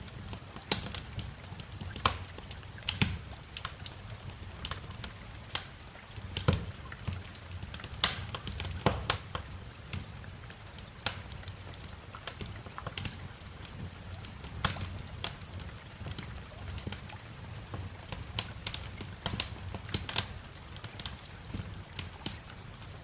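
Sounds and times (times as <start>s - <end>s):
low fire rumble: 0.0s - 23.0s
wood fire crackling and popping: 0.0s - 23.0s.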